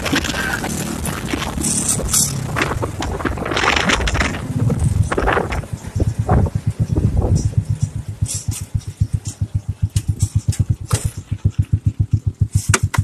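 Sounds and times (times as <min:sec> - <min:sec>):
motorcycle engine putter: 0:00.0 - 0:13.0.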